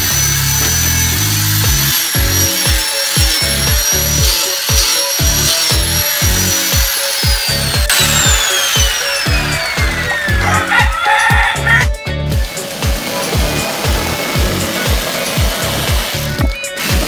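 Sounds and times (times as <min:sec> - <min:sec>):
angle grinder whining: 0:00.0 - 0:17.0
background music with steady beat: 0:00.0 - 0:17.0.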